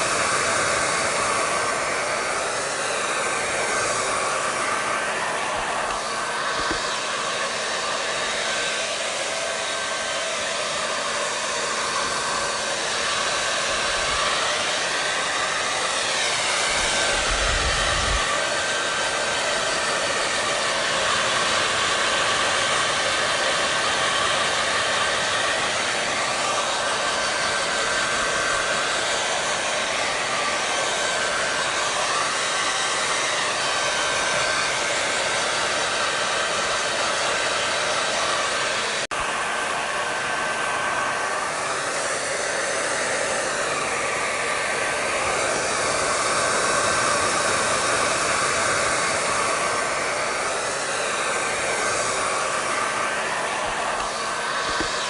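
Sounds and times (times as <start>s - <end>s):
hair dryer blowing: 0.0s - 55.0s.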